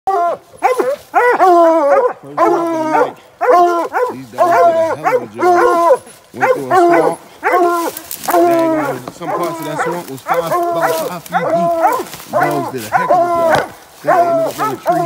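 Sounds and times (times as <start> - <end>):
hounds bawling barks: 0.1 - 15.0.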